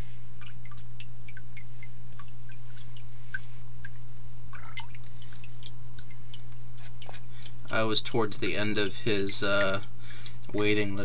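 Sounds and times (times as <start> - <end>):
steady low hum: 0.0 - 11.0
water dripping and trickling: 0.3 - 11.0.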